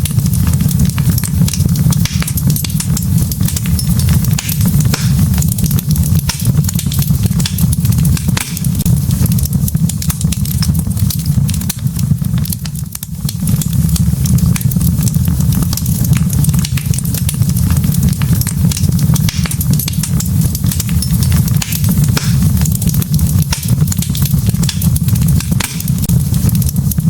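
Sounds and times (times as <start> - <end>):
low rumble of flames: 0.0 - 27.0
wood fire crackling and popping: 0.0 - 27.0.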